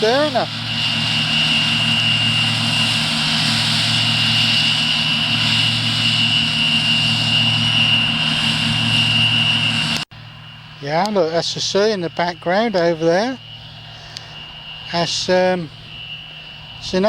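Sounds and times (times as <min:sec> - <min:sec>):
combine harvester engine drone: 0:00.0 - 0:17.0
high-pitched whine: 0:00.0 - 0:17.0.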